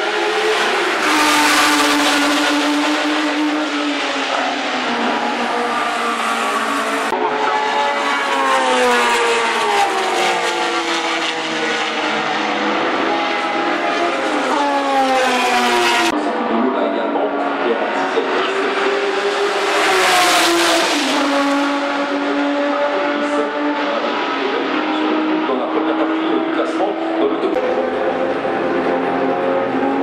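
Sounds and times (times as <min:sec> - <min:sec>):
racing car engine accelerating: 0:00.0 - 0:30.0.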